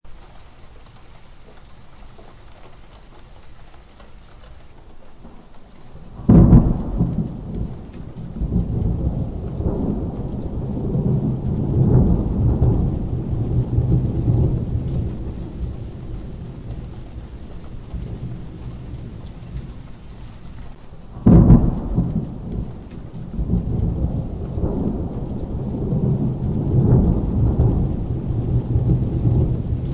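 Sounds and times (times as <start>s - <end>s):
steady rain: 0.0s - 29.9s
rolling thunder rumbles: 0.1s - 29.9s
thunderclaps: 0.1s - 29.9s.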